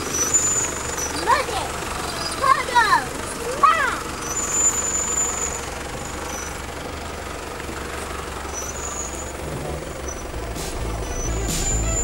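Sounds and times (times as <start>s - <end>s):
diesel engine at low revs: 0.0s - 12.0s.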